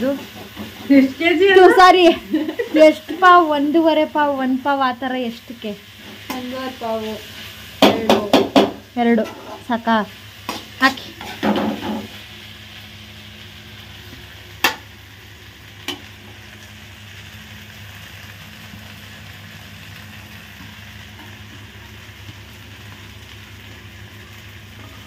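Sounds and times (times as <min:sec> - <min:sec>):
fried rice sizzling in a pan: 0:00.0 - 0:25.0.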